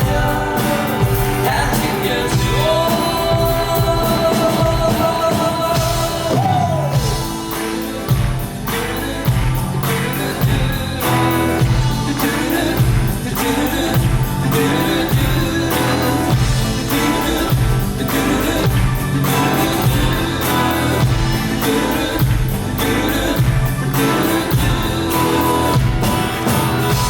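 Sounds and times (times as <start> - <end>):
live band playing: 0.0 - 27.0.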